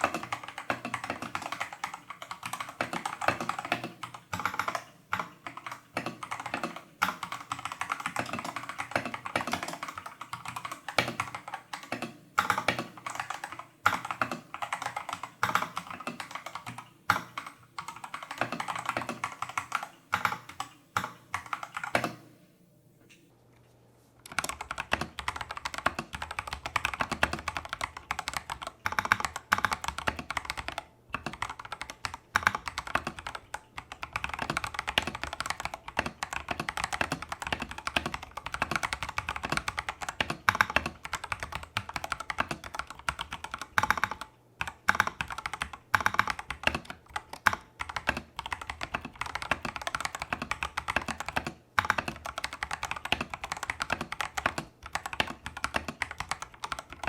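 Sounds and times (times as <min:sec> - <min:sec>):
mechanical keyboard typing: 0:00.0 - 0:22.3, 0:24.2 - 0:57.0.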